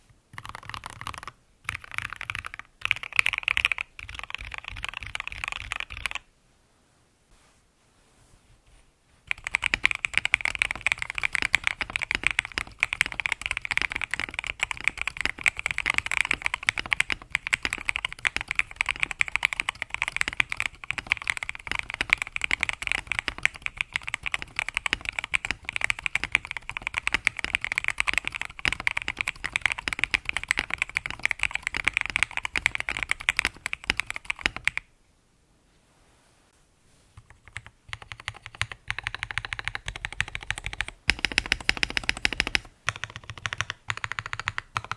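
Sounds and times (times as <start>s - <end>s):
fast typing on mechanical keyboard: 0.3s - 6.2s, 9.3s - 34.9s, 37.2s - 44.9s.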